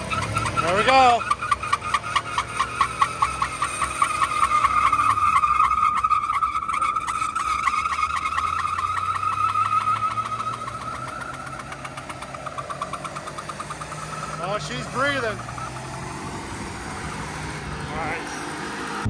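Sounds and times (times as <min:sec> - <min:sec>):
engine droning: 0:00.0 - 0:19.0
tires squealing: 0:00.0 - 0:19.0.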